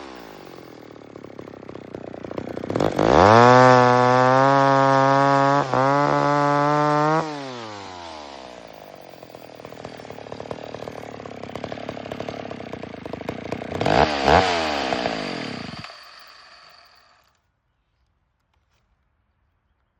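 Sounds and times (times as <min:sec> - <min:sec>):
chainsaw engine revving and idling: 0:00.0 - 0:17.3.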